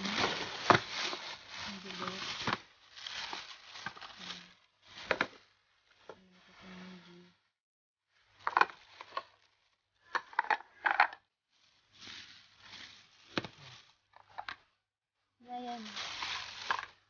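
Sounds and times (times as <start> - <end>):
plastic bag rustling and crinkling: 0.0 - 6.8, 8.2 - 14.7, 15.5 - 17.0.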